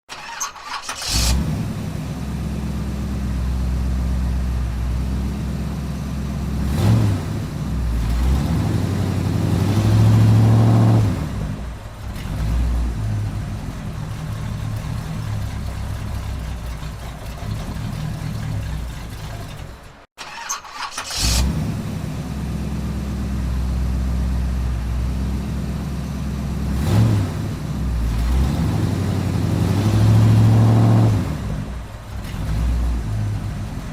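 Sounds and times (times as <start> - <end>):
car engine starting and revving: 0.1 - 33.9.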